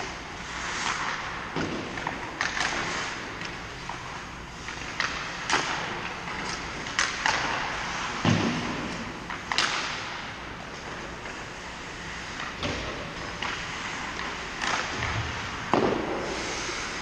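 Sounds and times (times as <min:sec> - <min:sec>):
hockey sticks and puck clacking: 0:00.0 - 0:17.0
skates hissing on ice: 0:00.0 - 0:17.0.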